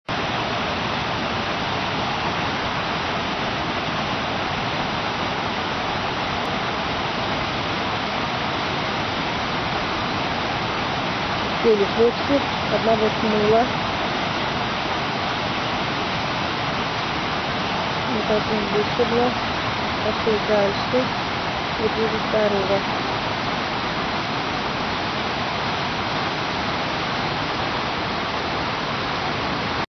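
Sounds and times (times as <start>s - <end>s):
rushing white water: 0.1s - 29.9s.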